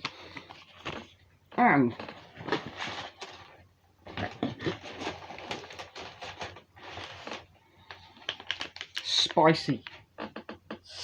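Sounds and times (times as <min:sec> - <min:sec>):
plastic snack packets rustling: 0:00.0 - 0:10.3.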